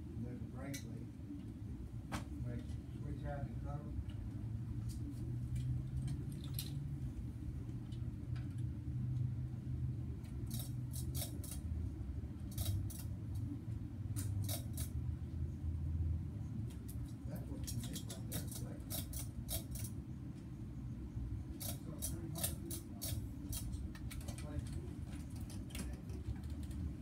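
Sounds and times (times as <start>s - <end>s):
ceiling fans humming: 0.0s - 27.0s.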